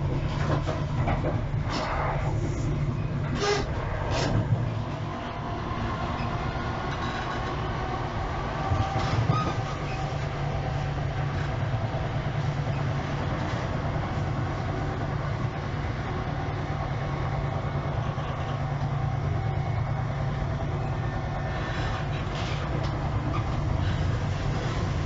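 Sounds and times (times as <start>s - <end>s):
train carriage low hum: 0.0s - 25.0s
wheels running on rails: 0.0s - 25.0s.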